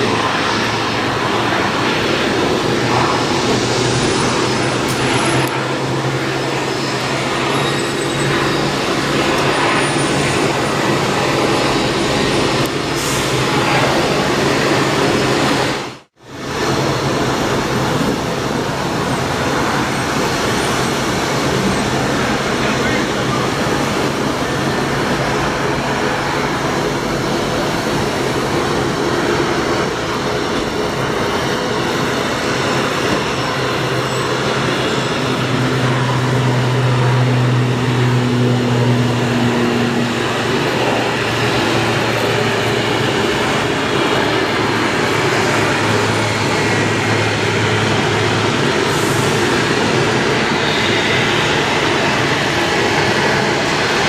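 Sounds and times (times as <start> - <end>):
low propeller hum: 0.0 - 54.0
turboprop engines droning: 0.0 - 54.0.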